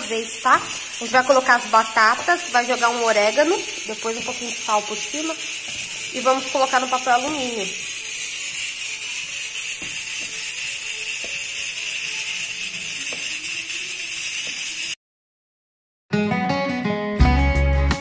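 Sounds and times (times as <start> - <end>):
steady high kitchen hiss: 0.0 - 15.0.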